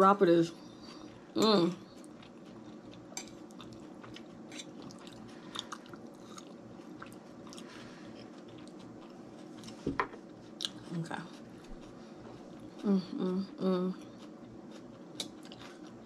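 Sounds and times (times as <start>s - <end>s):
faint steady hum: 0.0s - 16.0s
person chewing: 0.7s - 16.0s.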